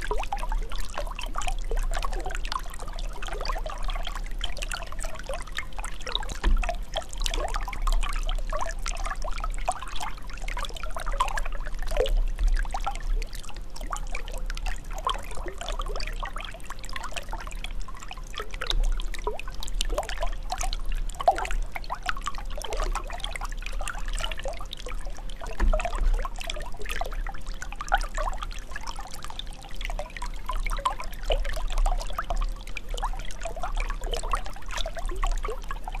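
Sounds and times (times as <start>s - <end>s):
running water gurgling: 0.0s - 36.0s.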